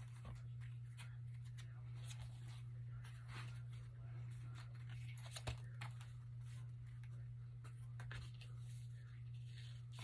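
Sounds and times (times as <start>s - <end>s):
low electrical hum: 0.0s - 10.0s
paper pages rustling: 0.0s - 10.0s.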